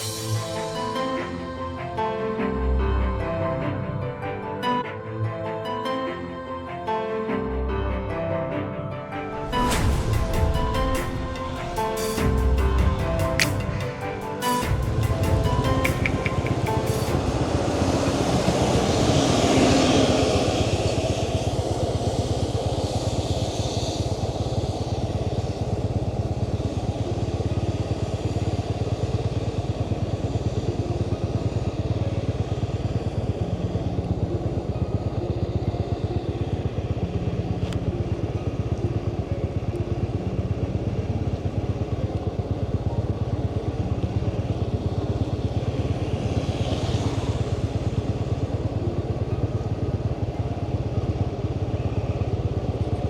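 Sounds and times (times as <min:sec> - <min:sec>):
motorbike engine cruising: 0:09.1 - 0:53.0.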